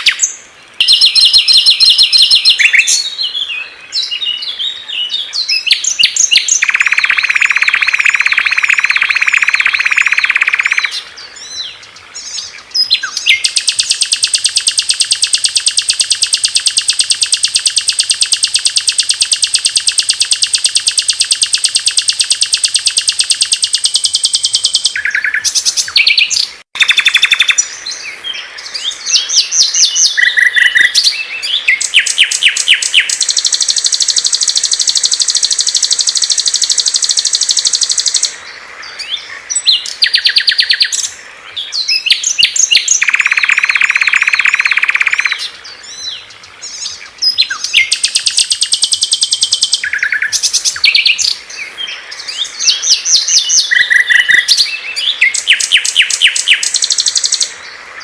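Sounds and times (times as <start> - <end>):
bird trilling: 0.0 - 3.4, 5.5 - 11.7, 12.4 - 27.7, 29.1 - 38.4, 39.6 - 41.1, 41.9 - 46.1, 47.0 - 51.4, 52.3 - 57.5
songbirds chirping and warbling: 0.0 - 58.0.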